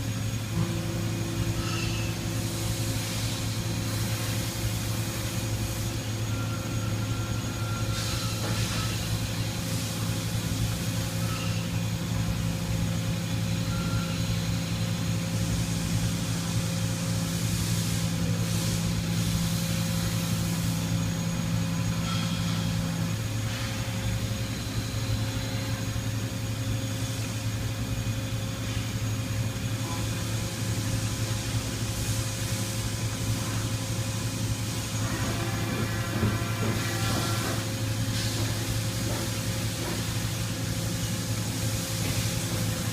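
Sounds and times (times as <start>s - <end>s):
milling machine hum and whine: 0.0s - 42.9s.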